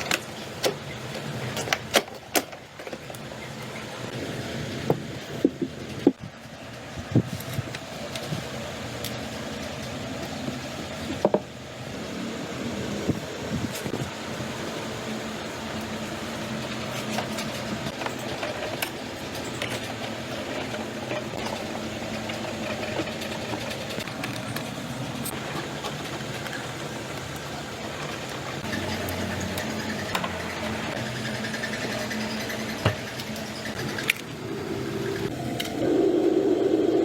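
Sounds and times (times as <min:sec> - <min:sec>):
mechanical running noise: 0:00.0 - 0:37.0.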